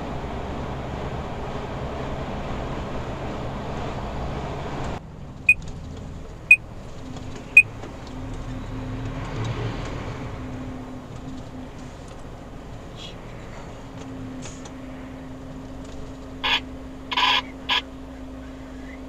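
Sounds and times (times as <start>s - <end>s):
lorry engine and road noise: 0.0s - 19.0s.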